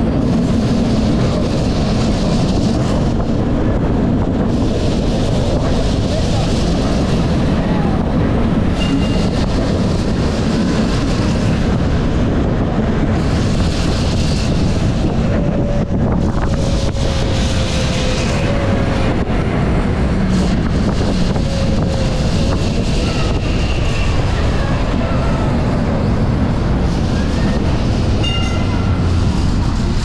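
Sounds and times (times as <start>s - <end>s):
tram running on track: 0.0s - 30.0s
wind rush over microphone: 0.0s - 30.0s.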